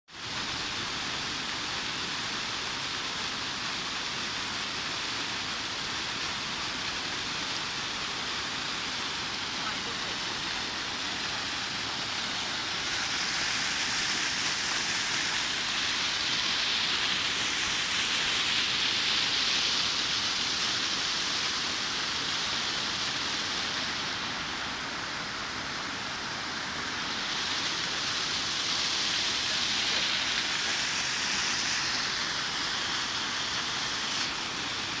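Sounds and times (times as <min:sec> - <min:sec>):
waterfall rushing: 0:00.3 - 0:35.0.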